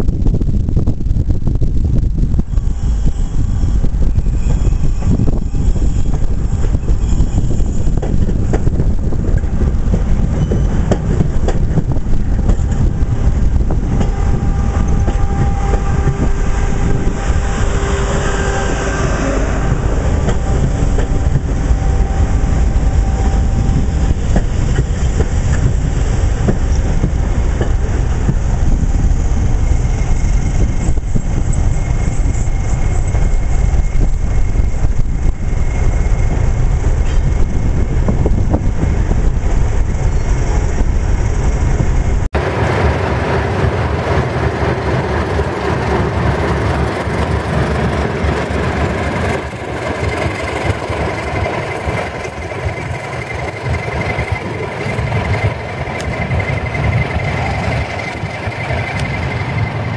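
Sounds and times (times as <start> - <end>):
diesel train rumble: 0.0 - 59.9
wheels running on rails: 0.1 - 59.9.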